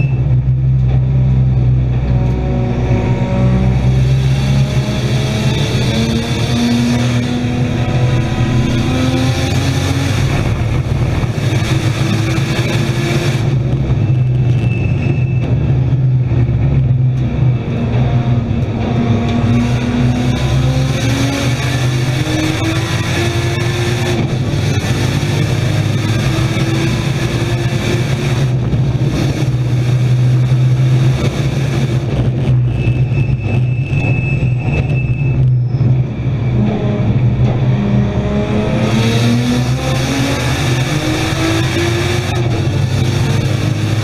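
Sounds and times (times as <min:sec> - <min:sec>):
race car engine under load: 0:00.0 - 0:44.0.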